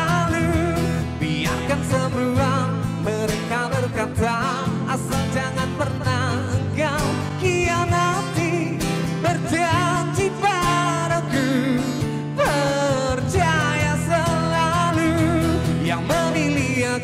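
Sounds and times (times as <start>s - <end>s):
acoustic guitar and bass: 0.0s - 17.0s.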